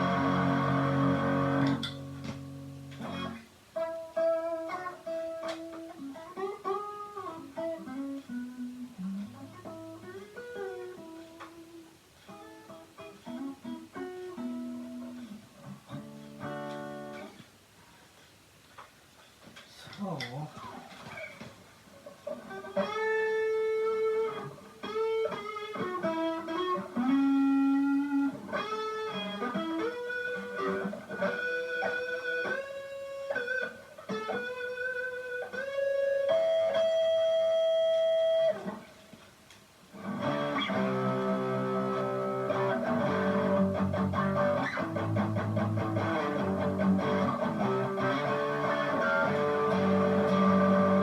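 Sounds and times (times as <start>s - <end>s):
distorted electric guitar lead: 0.0s - 17.4s, 20.4s - 38.9s, 39.9s - 51.0s.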